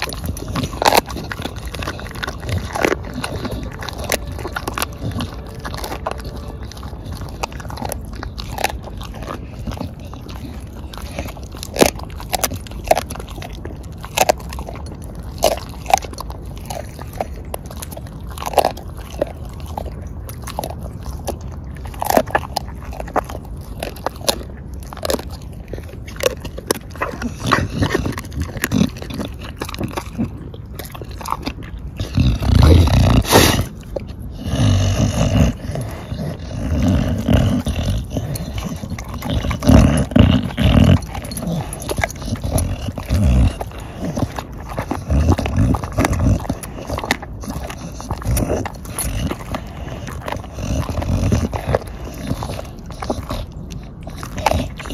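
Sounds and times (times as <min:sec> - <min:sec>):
dog chewing and crunching bones: 0:00.0 - 0:54.9.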